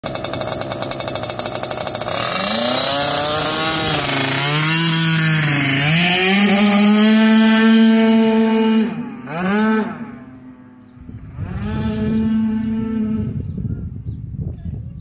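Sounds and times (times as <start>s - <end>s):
two-stroke scooter engine revving: 0.0s - 13.6s.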